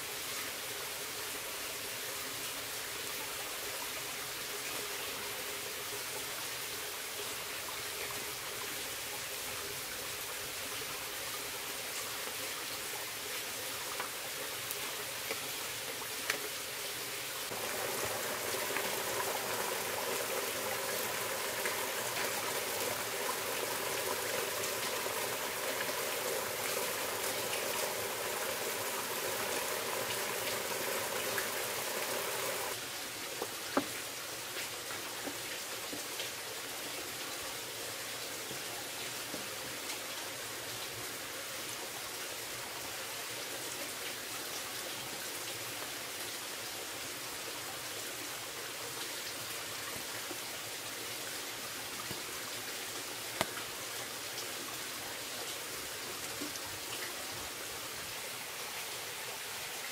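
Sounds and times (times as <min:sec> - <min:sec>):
rushing water and rain: 0:00.0 - 0:59.9.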